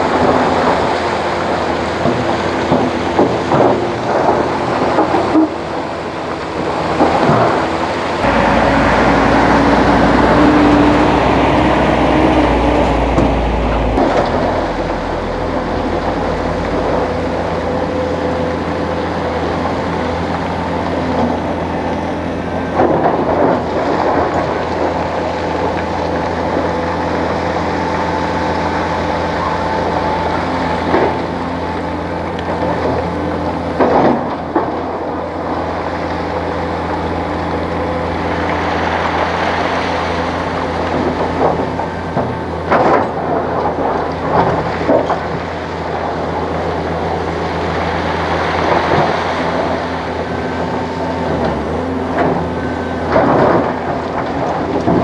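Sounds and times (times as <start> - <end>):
diesel engines running: 0.0 - 55.0
truck rumbling past: 0.0 - 55.0.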